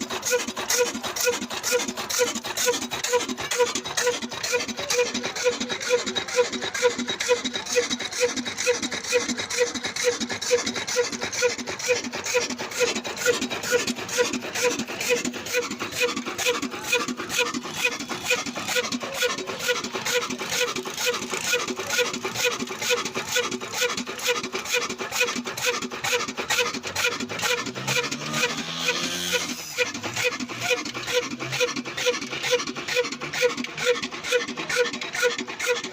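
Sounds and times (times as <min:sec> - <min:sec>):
diesel engine running slowly: 0:00.0 - 0:35.9.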